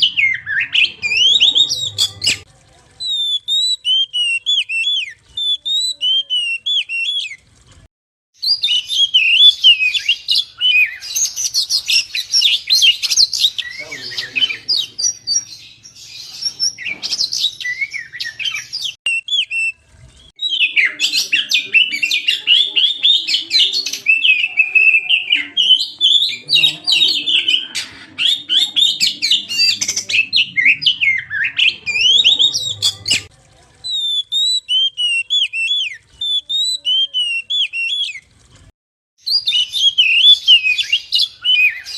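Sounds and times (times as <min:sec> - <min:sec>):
bird singing whistled song: 0:00.0 - 0:02.4, 0:03.0 - 0:07.4, 0:08.4 - 0:33.3, 0:33.9 - 0:38.2, 0:39.2 - 0:41.9.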